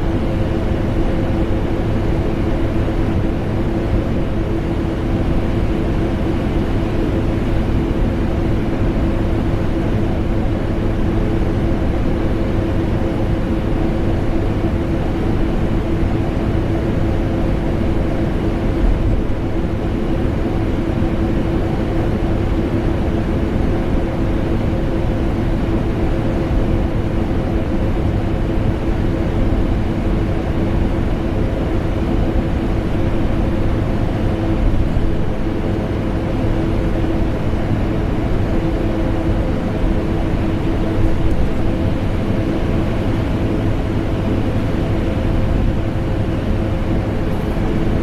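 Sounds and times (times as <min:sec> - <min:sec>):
air conditioner noise: 0:00.0 - 0:48.0.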